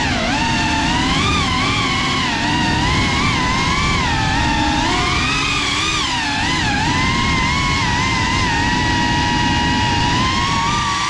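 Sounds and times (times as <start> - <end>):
quadcopter motors whining: 0.0 - 11.0
rush of wind: 0.0 - 11.0.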